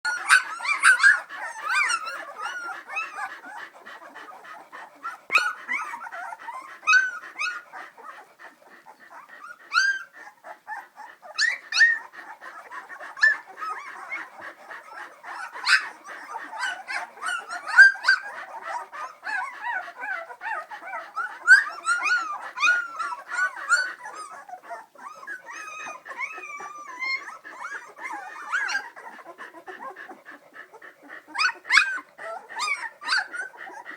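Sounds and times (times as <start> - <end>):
puppies whimpering and squealing: 0.1 - 33.9.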